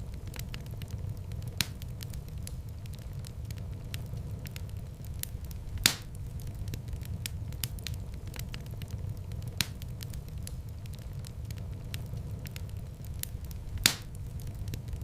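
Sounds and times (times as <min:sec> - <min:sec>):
loud fire pops: 0:00.0 - 0:15.0
low rumble of fire: 0:00.0 - 0:15.0
wood fire crackling: 0:00.0 - 0:15.0.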